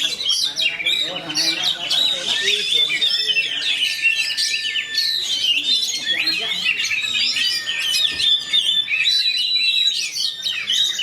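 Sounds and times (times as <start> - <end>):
songbird singing rapid chirps and whistles: 0.0 - 11.0.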